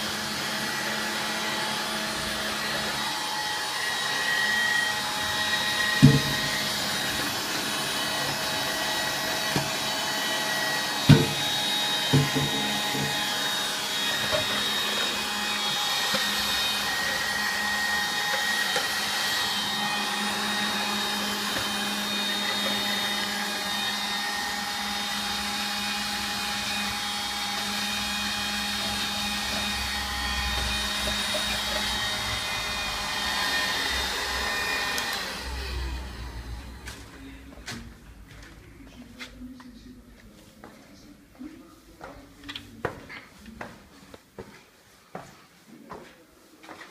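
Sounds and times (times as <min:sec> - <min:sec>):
cordless vacuum cleaner running: 0:00.0 - 0:37.8.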